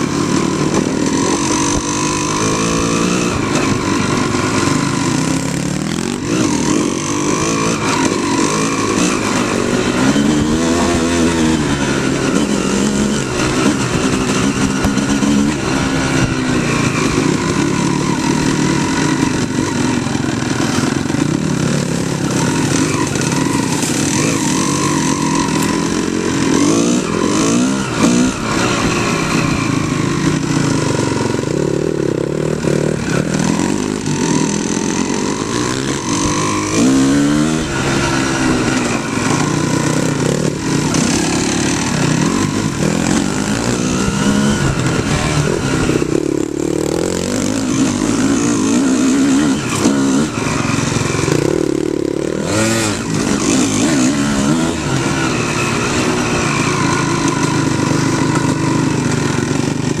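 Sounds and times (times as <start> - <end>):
dirt bike engines revving: 0.0 - 60.0.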